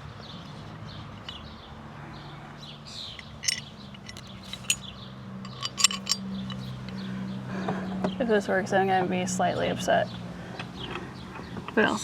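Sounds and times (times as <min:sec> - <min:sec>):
small birds chirping: 0:00.0 - 0:08.3, 0:09.8 - 0:12.0.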